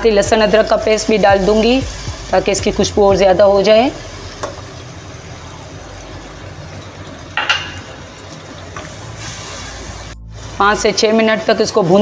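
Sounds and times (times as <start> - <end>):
paste sizzling in hot oil: 0.2 - 12.0.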